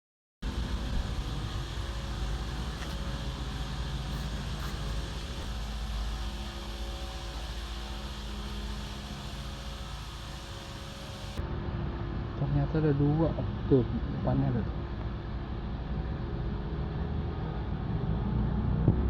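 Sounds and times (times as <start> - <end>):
constant hum: 0.4 - 19.0
low mechanical rumble: 0.4 - 19.0.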